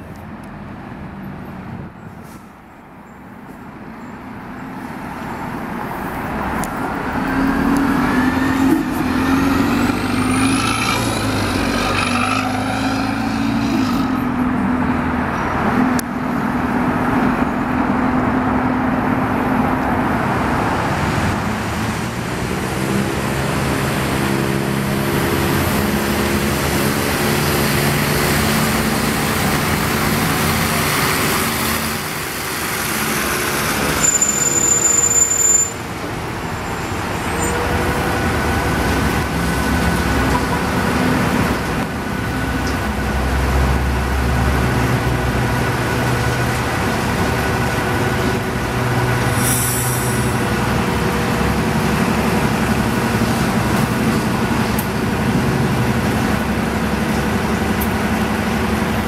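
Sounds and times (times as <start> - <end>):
bus engine running: 0.0 - 59.0
street traffic noise: 0.0 - 59.0.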